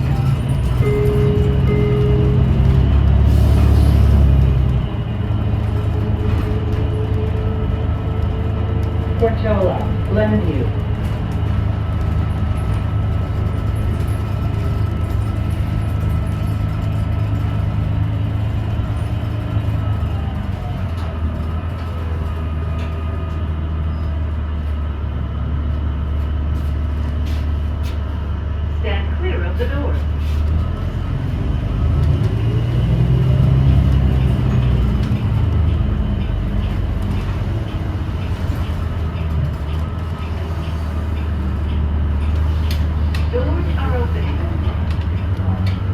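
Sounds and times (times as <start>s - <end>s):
bus drivetrain and road drone: 0.0s - 45.9s.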